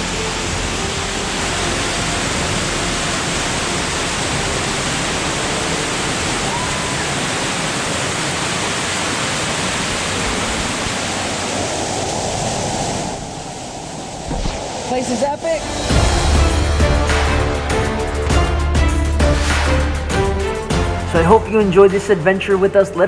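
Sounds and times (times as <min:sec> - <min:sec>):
waterfall rushing: 0:00.0 - 0:14.3, 0:15.6 - 0:23.0.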